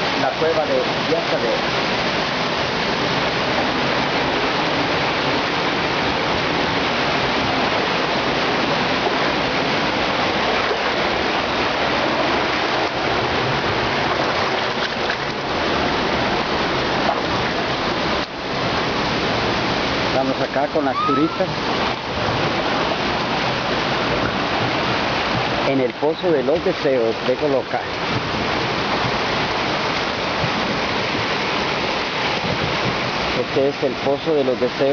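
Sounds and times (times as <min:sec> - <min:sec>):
running water in a cave: 0:00.0 - 0:34.9.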